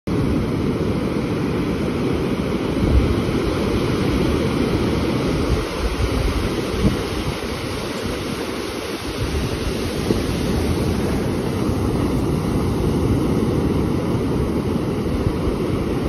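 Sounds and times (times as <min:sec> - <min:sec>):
waves breaking on sand: 0:00.1 - 0:16.0
wind rumbling on microphone: 0:00.1 - 0:16.0.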